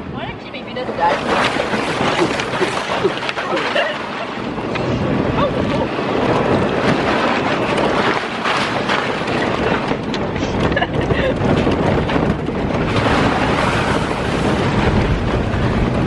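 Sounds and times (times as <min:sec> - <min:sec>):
constant rattling: 0:00.0 - 0:16.0
vehicle engine and tyre noise: 0:00.0 - 0:16.0
wind buffeting microphone: 0:00.0 - 0:16.0.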